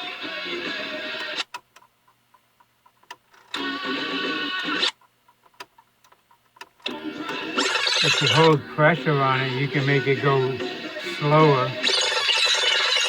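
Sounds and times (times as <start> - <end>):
fast forward tape sound: 0.0 - 13.0.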